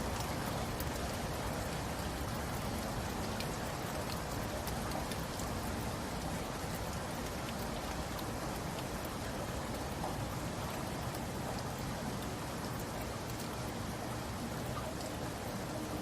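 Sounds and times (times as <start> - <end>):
raindrops ticking on a surface: 0.0 - 16.0
steady rain: 0.0 - 16.0.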